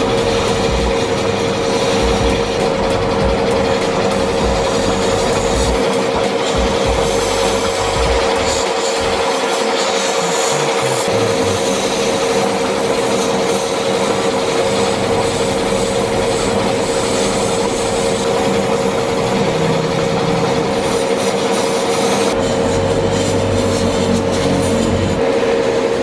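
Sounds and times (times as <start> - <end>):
airbrush hissing air: 0.0 - 25.2
mechanical hum: 0.0 - 26.0.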